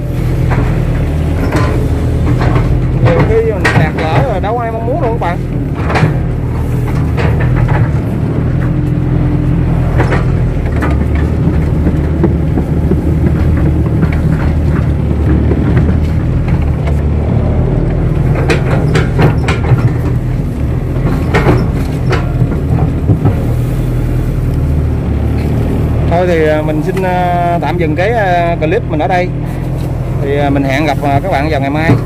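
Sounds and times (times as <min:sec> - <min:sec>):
excavator diesel engine running: 0:00.0 - 0:32.0
sharp knocks and clanks: 0:00.0 - 0:32.0.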